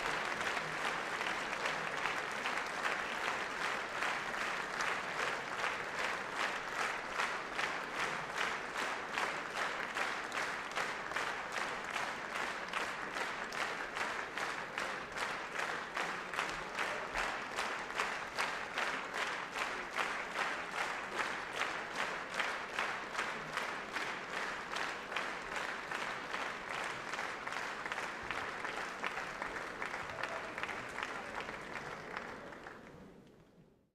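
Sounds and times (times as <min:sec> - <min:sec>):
audience clapping in rhythm: 0:00.0 - 0:33.9.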